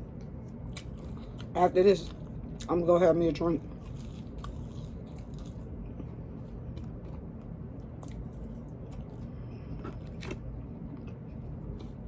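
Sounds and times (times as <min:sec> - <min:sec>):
low room hum: 0:00.0 - 0:12.0
faint chewing: 0:00.1 - 0:02.8, 0:03.6 - 0:12.0.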